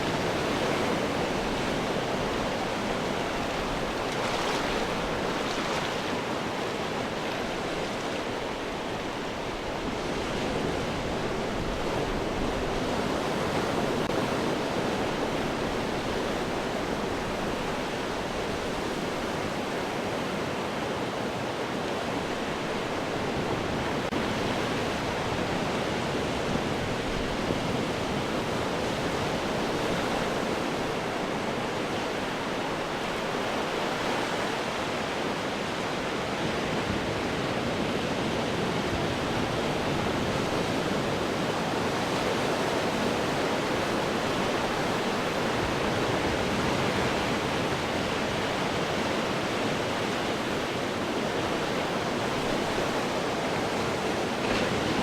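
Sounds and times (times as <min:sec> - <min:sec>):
ocean surf breaking against rocks: 0:00.0 - 0:55.0.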